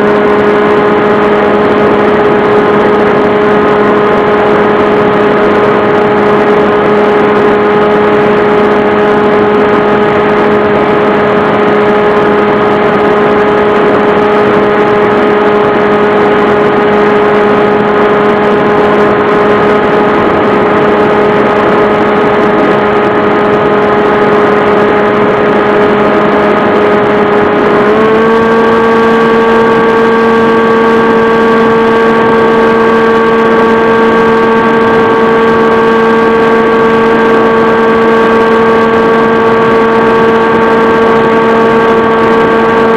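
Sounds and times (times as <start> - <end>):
model aircraft motor droning: 0.0 - 42.9.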